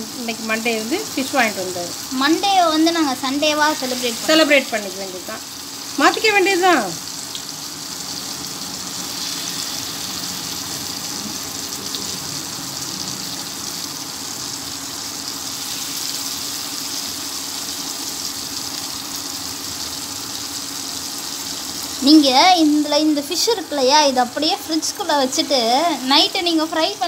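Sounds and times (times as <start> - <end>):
fish sizzling in hot oil: 0.0 - 27.0.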